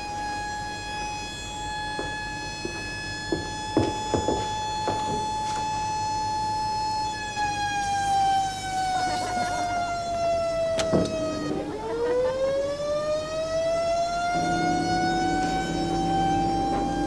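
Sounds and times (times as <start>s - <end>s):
siren tone: 0.0s - 17.0s.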